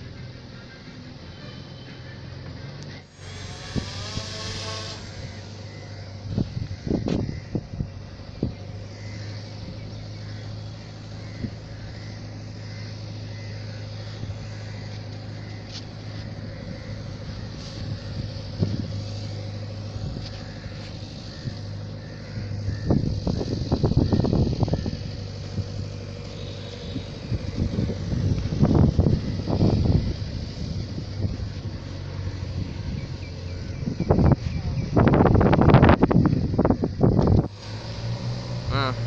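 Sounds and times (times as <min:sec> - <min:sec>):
low engine hum: 0:00.0 - 0:39.0
rc plane motor buzzing: 0:02.7 - 0:39.0
wind rumbling on microphone: 0:03.1 - 0:39.0.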